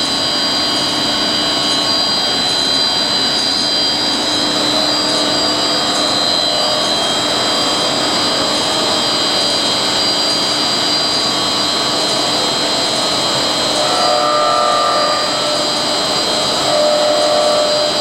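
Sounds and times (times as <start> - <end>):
high-pitched whining tones: 0.0 - 18.0.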